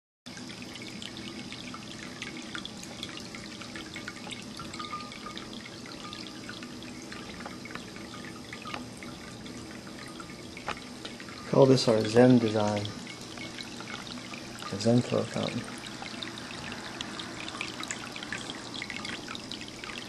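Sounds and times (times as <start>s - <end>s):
fountain water trickling: 0.3s - 20.0s.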